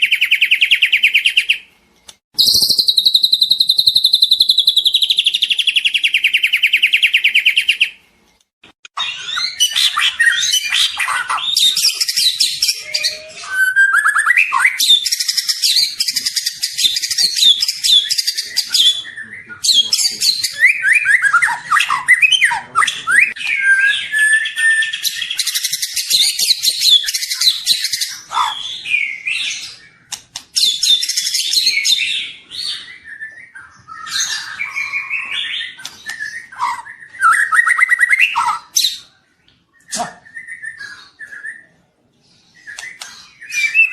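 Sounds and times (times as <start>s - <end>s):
bird song with trills and whistles: 0.0s - 1.8s, 2.4s - 8.1s, 8.9s - 43.9s.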